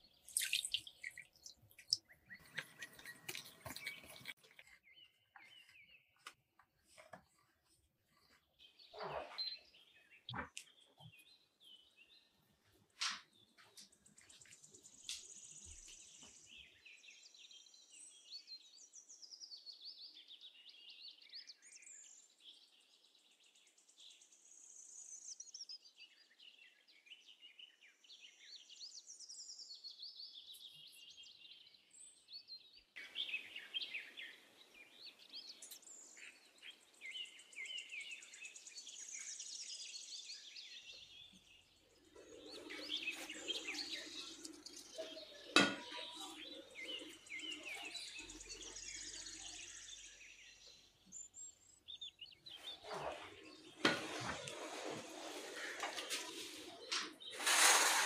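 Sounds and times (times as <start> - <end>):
birds chirping and warbling: 0.0 - 58.0.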